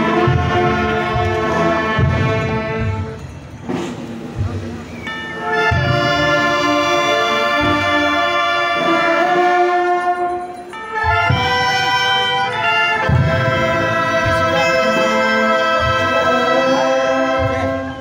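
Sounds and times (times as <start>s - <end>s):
brass band playing slow march: 0.0s - 18.0s.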